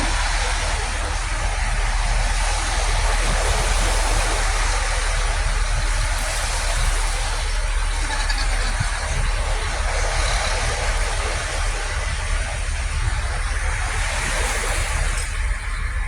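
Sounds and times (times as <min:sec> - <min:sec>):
passing traffic rumble: 0:00.0 - 0:16.0
wind buffeting microphone: 0:00.0 - 0:16.0.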